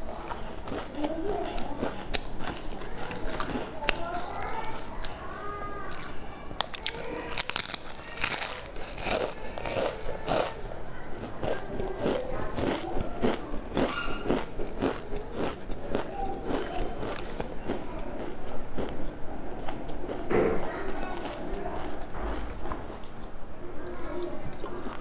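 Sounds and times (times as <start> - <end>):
crisps crunching while chewed: 0.0 - 25.0.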